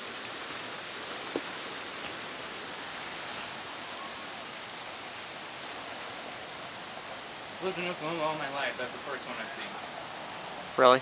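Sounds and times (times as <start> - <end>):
outdoor rain or wind hiss: 0.0 - 11.0.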